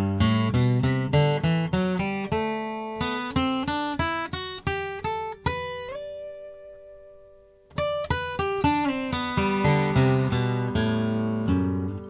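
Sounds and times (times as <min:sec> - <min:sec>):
acoustic guitar fingerpicking: 0:00.0 - 0:12.0.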